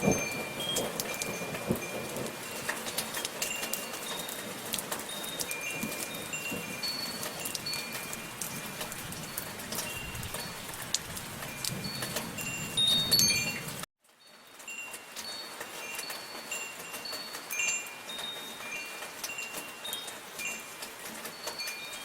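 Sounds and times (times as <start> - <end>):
rain pattering: 0.0 - 22.0
wind chimes ringing: 0.0 - 22.0.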